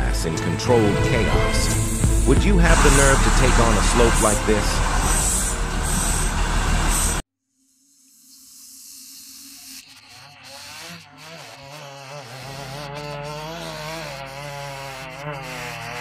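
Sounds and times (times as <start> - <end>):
chainsaw cutting wood: 1.4 - 6.4, 7.8 - 16.0.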